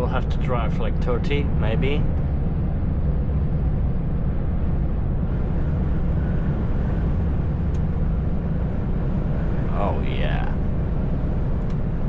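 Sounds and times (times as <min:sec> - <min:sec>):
truck engine and tyre noise: 0:00.0 - 0:12.0.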